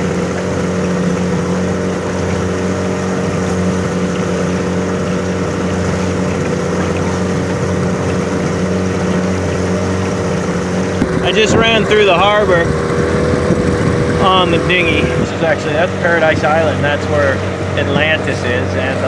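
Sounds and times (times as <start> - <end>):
outboard motor droning: 0.0 - 19.0.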